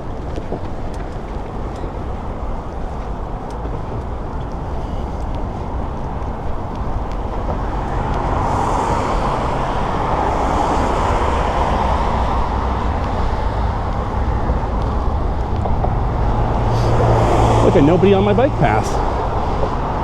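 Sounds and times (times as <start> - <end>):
passing cars road noise: 0.0 - 20.0.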